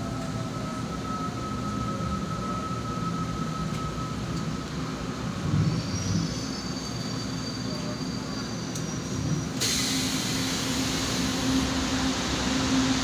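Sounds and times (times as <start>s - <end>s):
rumble of wheels on rails: 0.0s - 13.0s.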